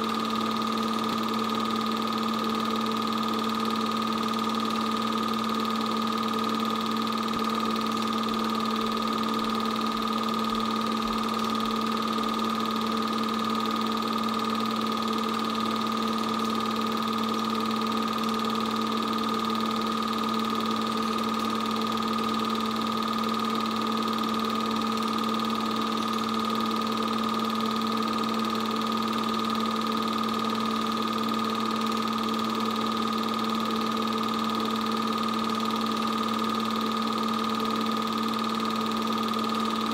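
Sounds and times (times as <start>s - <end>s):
film projector motor hum: 0.0s - 39.9s.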